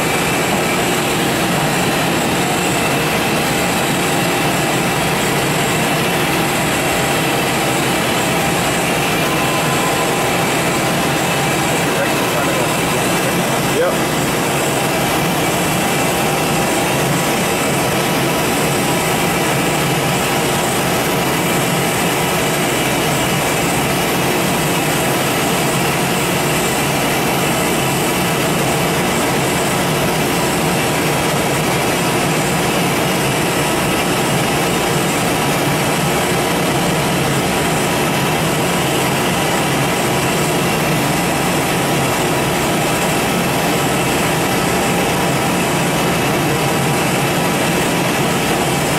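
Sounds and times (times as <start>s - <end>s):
lathe machine drone: 0.0s - 48.9s
steady machine whining tones: 0.0s - 48.9s.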